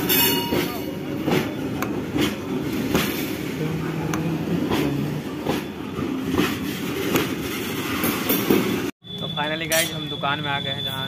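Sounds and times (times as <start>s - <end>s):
freight train rumbling past: 0.0s - 8.9s.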